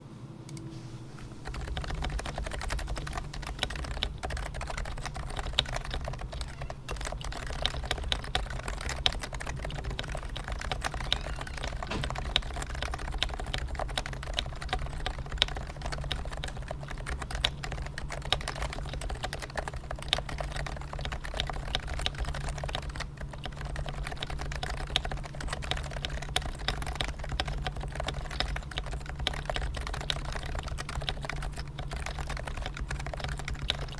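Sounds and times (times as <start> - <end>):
steady low hum: 0.0 - 33.9
fast keyboard typing: 1.2 - 33.9.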